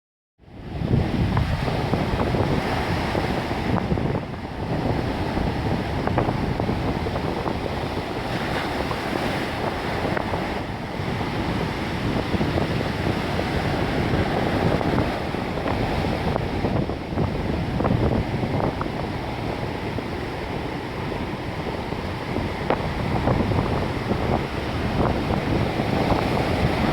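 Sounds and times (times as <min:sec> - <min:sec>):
wind buffeting microphone: 0:00.4 - 0:26.9
ocean surf breaking on beach: 0:00.5 - 0:26.9.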